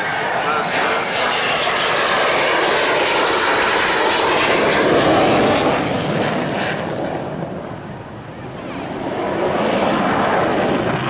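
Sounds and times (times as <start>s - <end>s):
jet flying past: 0.0s - 11.0s.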